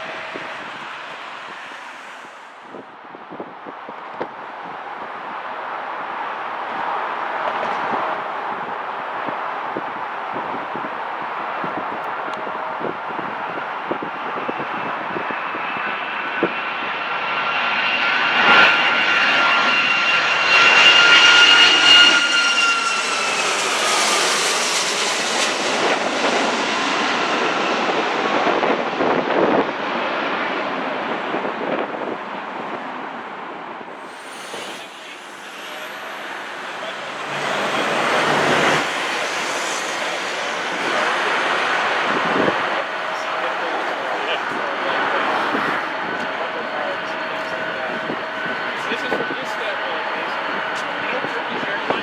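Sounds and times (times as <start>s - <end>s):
jet engine whine: 0.0s - 52.0s
jet engines roaring: 0.0s - 52.0s.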